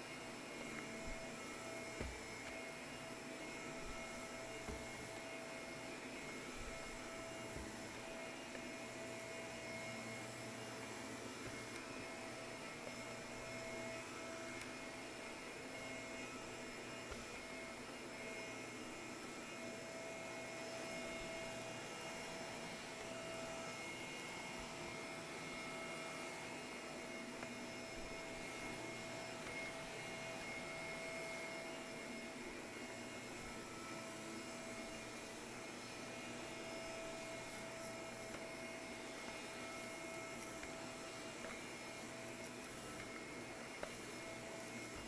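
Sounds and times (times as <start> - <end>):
vacuum cleaner running on carpet: 0.0 - 45.0.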